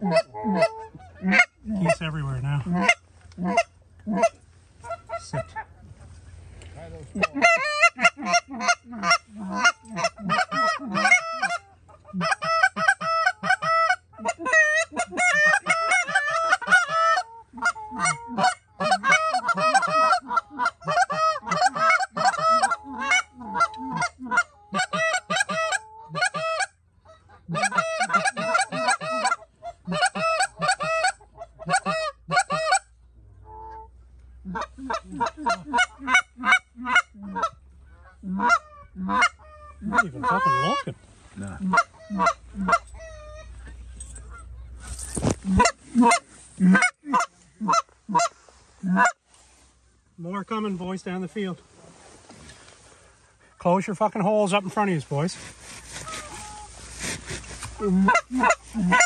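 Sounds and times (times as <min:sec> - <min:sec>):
geese honking: 0:00.0 - 0:59.0.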